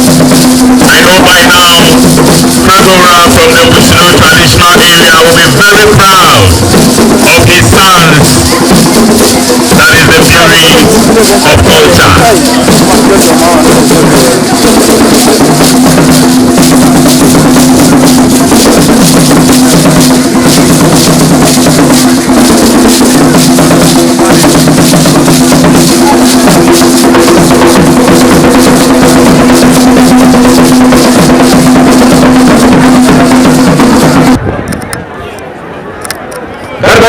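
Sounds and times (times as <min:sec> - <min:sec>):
drum ensemble playing fast rhythm: 0:00.0 - 0:34.4.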